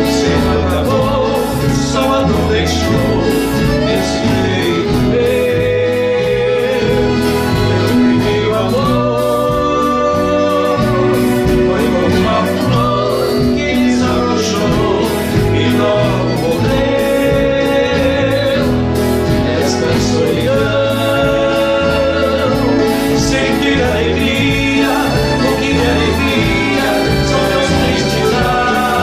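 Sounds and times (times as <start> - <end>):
accordion: 0.0 - 29.0
acoustic guitars: 0.0 - 29.0
electric bass line: 0.0 - 29.0
keyboards: 0.0 - 29.0
men singing: 0.0 - 29.0.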